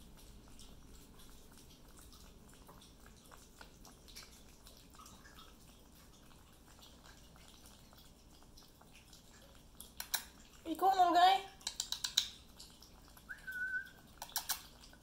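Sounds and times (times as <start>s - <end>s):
puppies chewing and lapping: 0.0s - 15.0s.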